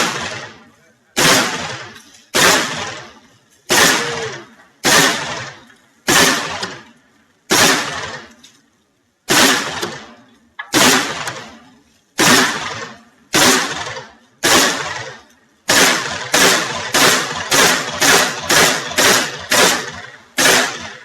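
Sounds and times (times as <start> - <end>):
shotgun shots: 0.0 - 0.6, 1.2 - 6.9, 7.5 - 8.4, 9.3 - 11.6, 12.2 - 21.0.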